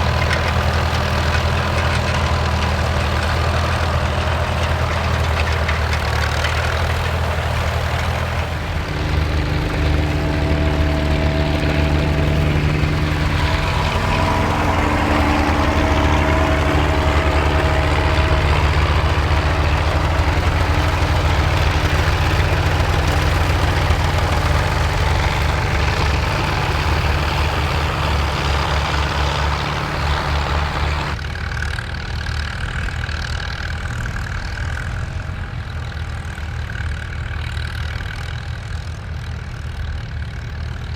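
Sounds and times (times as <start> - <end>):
another engine running: 0.0 - 40.9
tractor engine running: 0.0 - 40.9.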